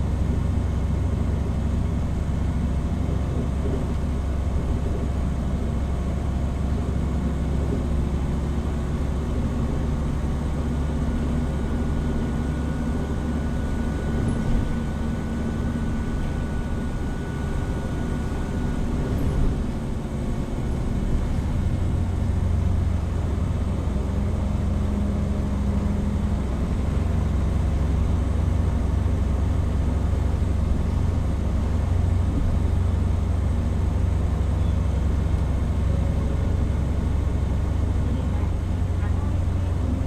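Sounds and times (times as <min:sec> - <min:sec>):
bus diesel engine drone: 0:00.0 - 0:40.0
road noise: 0:00.0 - 0:40.0.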